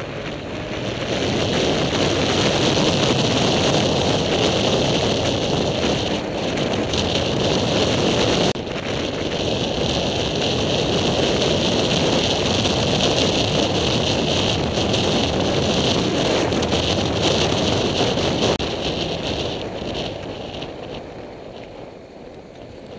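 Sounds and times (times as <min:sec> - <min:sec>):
motorcycle riding noise: 0:00.0 - 0:22.9
wind rushing over microphone: 0:00.0 - 0:22.9.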